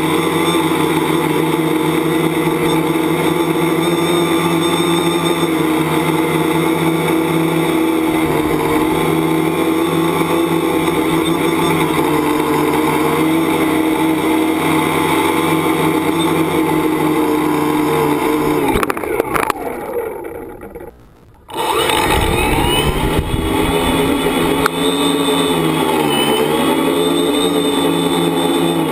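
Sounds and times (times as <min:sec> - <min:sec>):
drone motors and propellers buzzing: 0:00.0 - 0:28.9.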